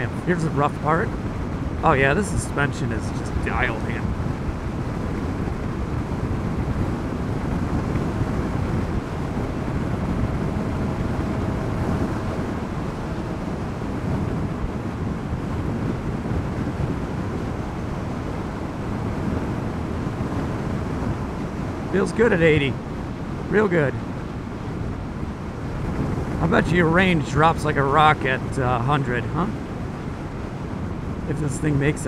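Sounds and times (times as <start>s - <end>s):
faint steady whine: 0.0s - 32.0s
road noise: 0.0s - 32.0s
wind rush on microphone: 0.0s - 32.0s.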